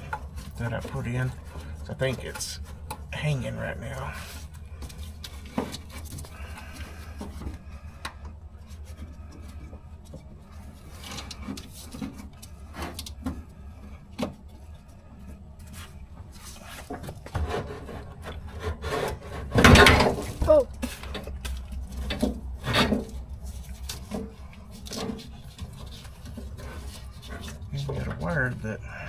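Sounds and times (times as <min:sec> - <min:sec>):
low steady hum: 0:00.0 - 0:29.0
parts knocking and rubbing: 0:00.0 - 0:29.0.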